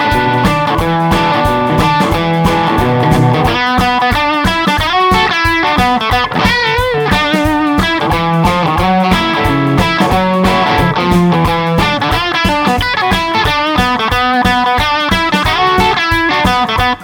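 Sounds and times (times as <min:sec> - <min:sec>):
electric guitar lick: 0:00.0 - 0:17.0.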